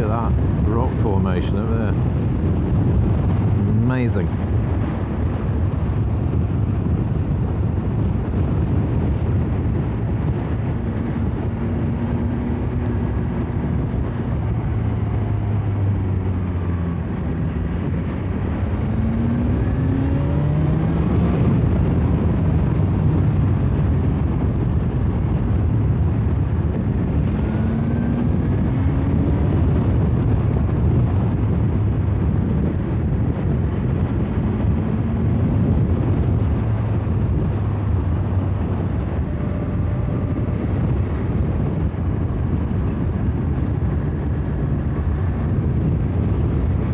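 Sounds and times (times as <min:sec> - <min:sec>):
wind rush over microphone: 0:00.0 - 0:46.9
motorcycle engine accelerating: 0:01.8 - 0:46.9.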